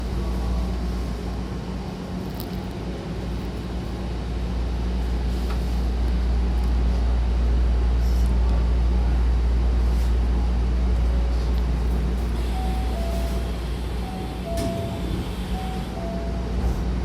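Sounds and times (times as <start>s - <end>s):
train electrical hum: 0.0s - 17.0s.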